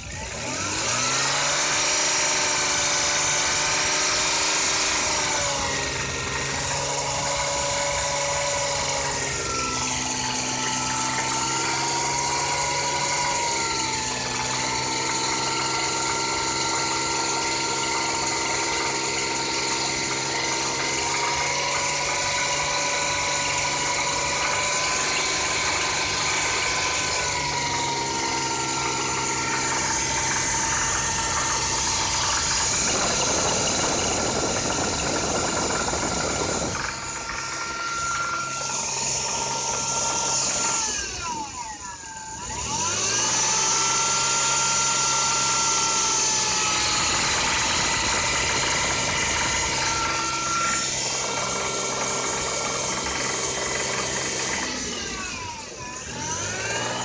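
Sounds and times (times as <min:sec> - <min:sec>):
car engine idling with whine: 0:00.0 - 0:57.0.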